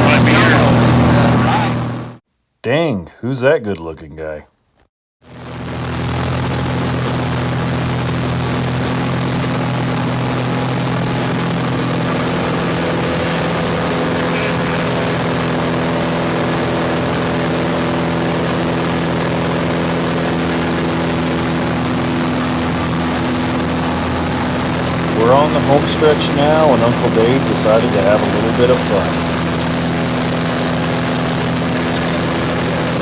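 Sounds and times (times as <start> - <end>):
propeller airplane droning: 0.0 - 2.2, 5.3 - 33.0.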